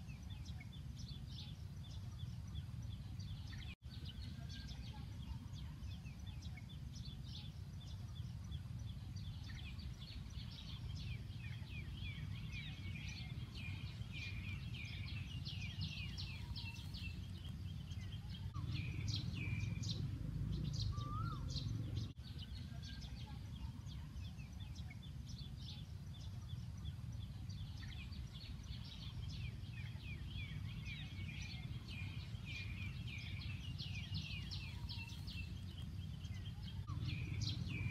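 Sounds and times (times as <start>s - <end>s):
birds chirping: 0.0s - 37.9s
steady low rumble: 0.0s - 37.9s.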